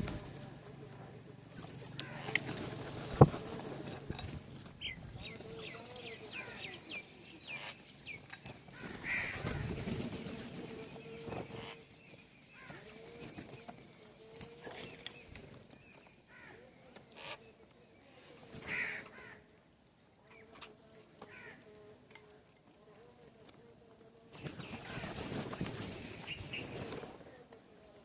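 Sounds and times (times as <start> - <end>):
birds calling and chirping: 0.0 - 21.7, 24.3 - 27.4.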